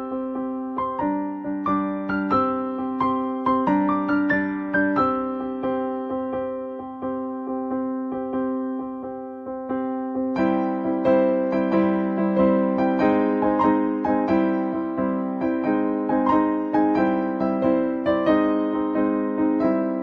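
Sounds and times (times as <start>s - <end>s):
gentle keyboard melody: 0.0s - 20.0s.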